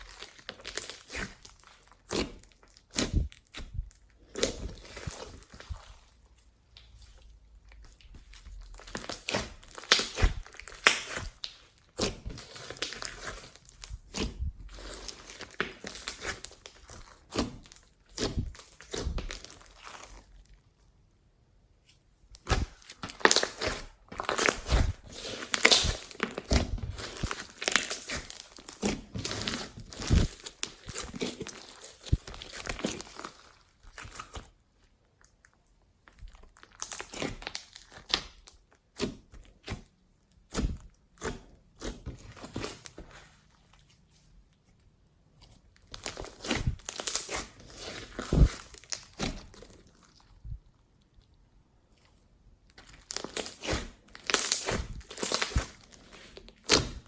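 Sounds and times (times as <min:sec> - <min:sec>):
slime squished by hand: 0:00.0 - 0:20.6, 0:21.9 - 0:43.4, 0:45.5 - 0:57.0.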